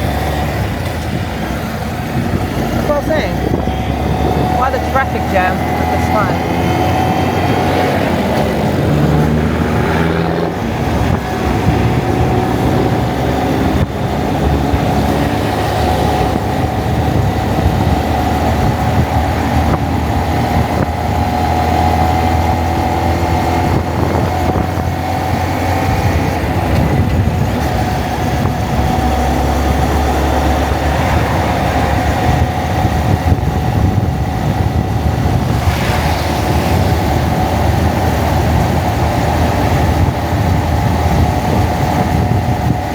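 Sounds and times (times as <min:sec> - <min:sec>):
other vehicles in traffic: 0:00.0 - 0:42.9
wind noise on microphone: 0:00.0 - 0:42.9.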